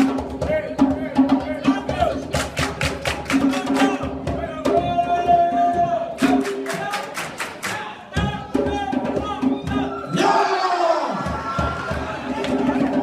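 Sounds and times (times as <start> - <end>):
hand drums played quickly: 0.0 - 9.9, 11.2 - 13.0.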